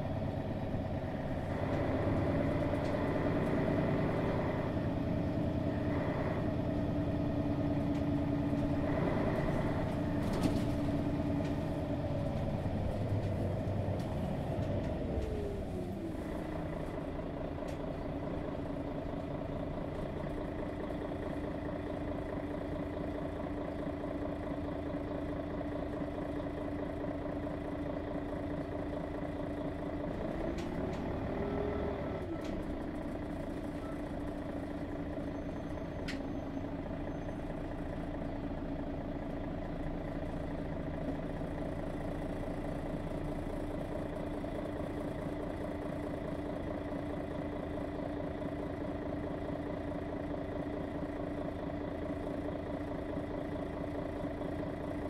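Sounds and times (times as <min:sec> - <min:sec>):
diesel bus engine running: 0:00.0 - 0:55.0.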